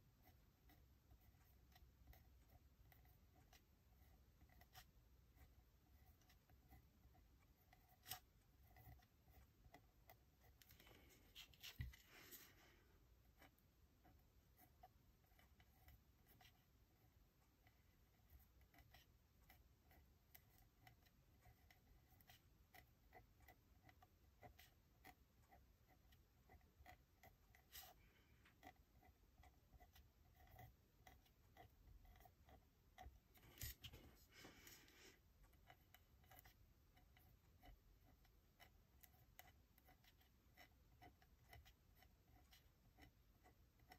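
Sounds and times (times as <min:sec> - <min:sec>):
small ticks and scratches on paper: 0:00.0 - 0:43.9.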